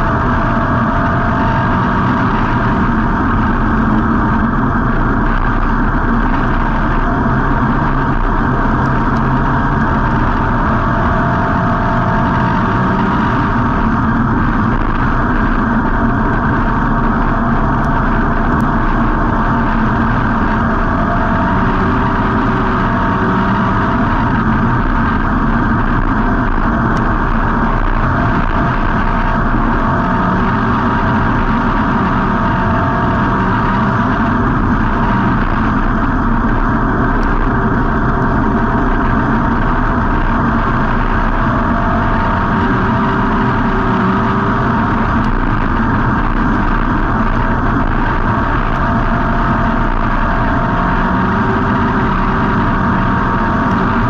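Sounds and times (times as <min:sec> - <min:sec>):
race car engine running: 0:00.0 - 0:54.0
road and chassis noise: 0:00.0 - 0:54.0.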